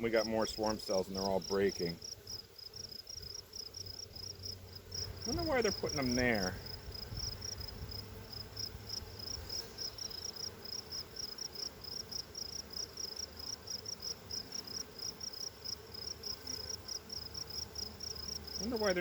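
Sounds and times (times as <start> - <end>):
honey bees buzzing: 0.0 - 19.0
cricket chirping: 1.4 - 7.7, 8.3 - 18.9.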